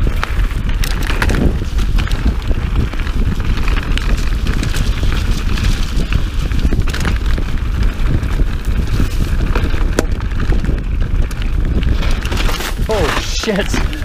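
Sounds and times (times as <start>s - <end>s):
bike knocking over roots: 0.0s - 14.0s
bike rattling and clattering: 0.0s - 14.0s
wind rushing on microphone: 0.0s - 14.0s.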